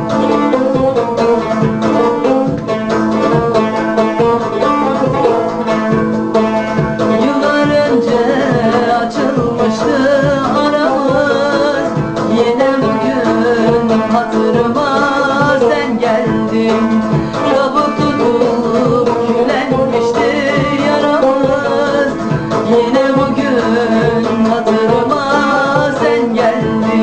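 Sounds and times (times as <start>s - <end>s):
woman singing: 0.0s - 5.9s, 6.7s - 27.0s
plucked string instrument: 0.0s - 27.0s.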